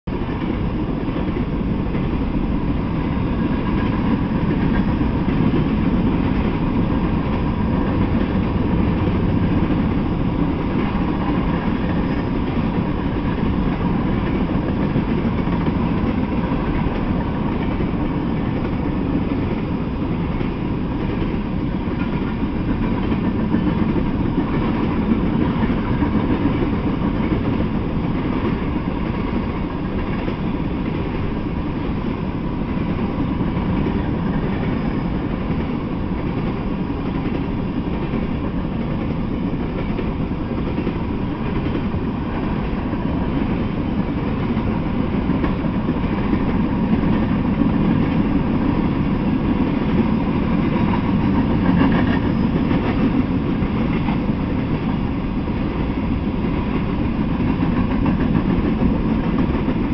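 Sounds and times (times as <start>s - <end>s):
freight train wheels rolling: 0.1s - 59.9s.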